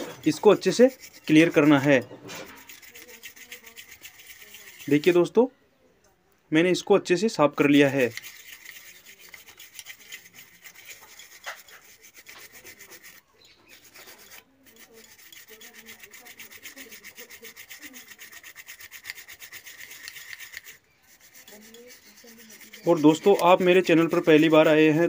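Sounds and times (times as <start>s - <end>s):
toothbrush scrubbing circuit board: 0.0s - 5.3s, 7.6s - 25.0s.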